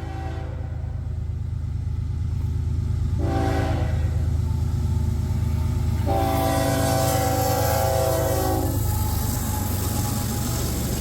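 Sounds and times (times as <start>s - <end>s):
locomotive engines rumbling: 0.0s - 11.0s.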